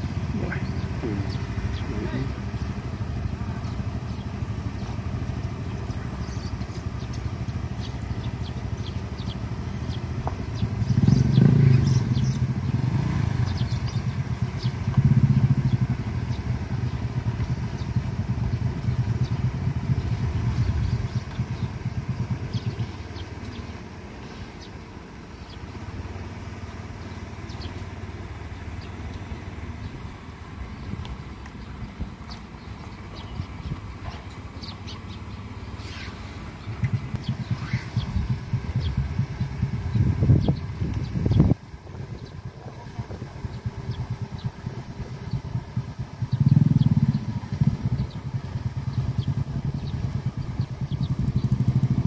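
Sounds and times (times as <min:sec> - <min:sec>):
car engines passing: 0:00.0 - 0:52.0
motorcycle engine passing: 0:00.0 - 0:52.0.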